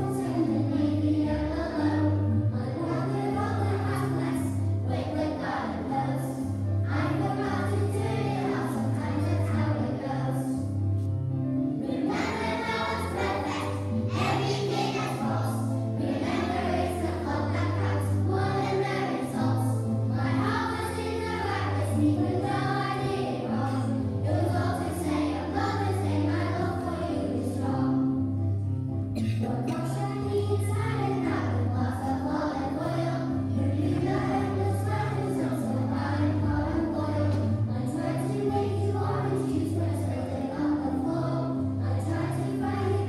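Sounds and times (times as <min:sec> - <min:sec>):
children singing in unison: 0:00.0 - 0:10.5, 0:11.8 - 0:28.2, 0:29.7 - 0:43.0.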